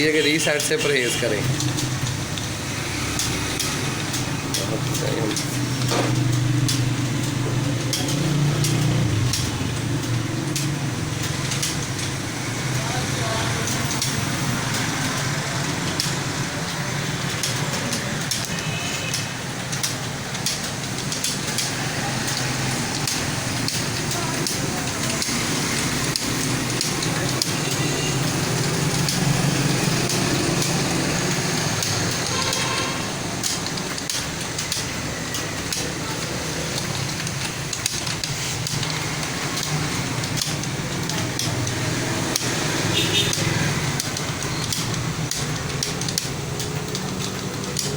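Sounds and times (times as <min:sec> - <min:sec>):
keyboard keys clicking: 0:00.0 - 0:47.9.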